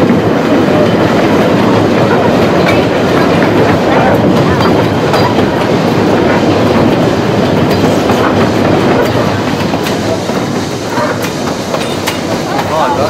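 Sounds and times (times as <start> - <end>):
wheels clacking on rails: 0.0 - 13.0
wooden carriages rattling: 0.0 - 13.0.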